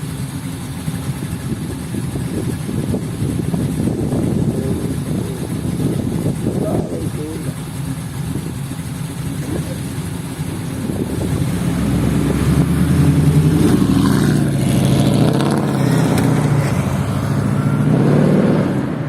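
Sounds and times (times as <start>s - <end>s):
supercar engine revving: 0.0s - 19.0s.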